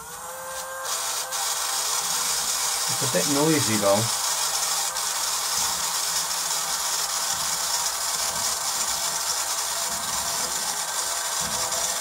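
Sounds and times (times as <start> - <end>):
small electric motor and gearbox: 0.0 - 12.0.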